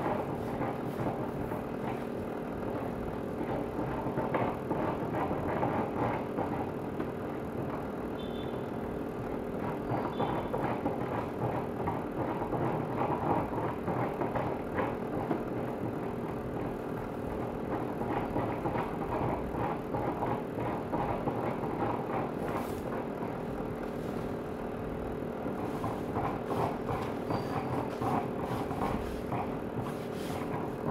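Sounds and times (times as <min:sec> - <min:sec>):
garment steamer humming and rattling: 0:00.0 - 0:30.9.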